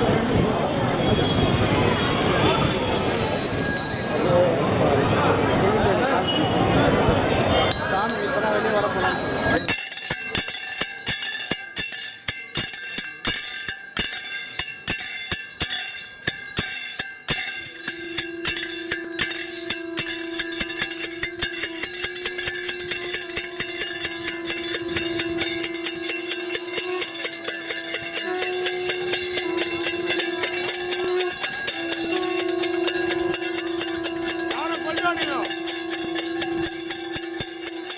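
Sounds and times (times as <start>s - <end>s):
brass bells ringing rapidly: 0.0s - 37.9s.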